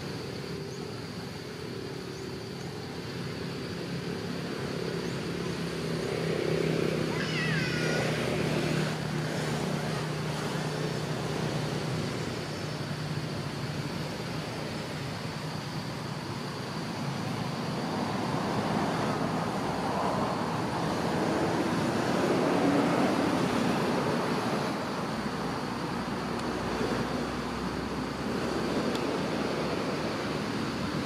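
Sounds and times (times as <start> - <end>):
rushing hiss: 0.0 - 31.0.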